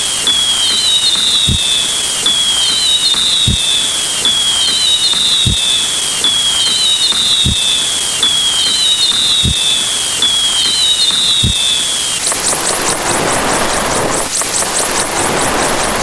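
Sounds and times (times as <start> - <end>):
falling whistle: 0.0 - 16.0.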